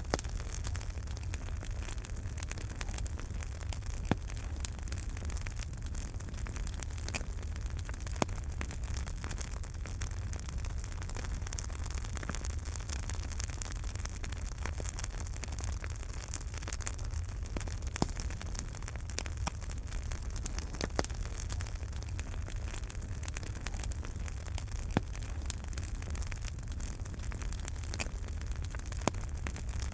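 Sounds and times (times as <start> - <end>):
fire crackles and pops: 0.0 - 29.9
fire flames rumbling and hissing: 0.0 - 29.9.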